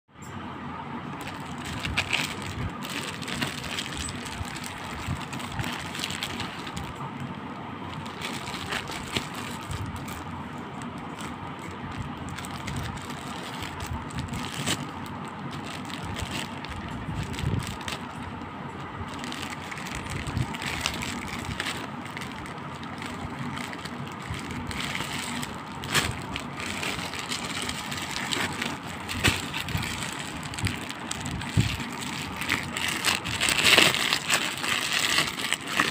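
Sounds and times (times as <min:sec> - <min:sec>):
plastic bag crinkling: 0:01.1 - 0:35.9.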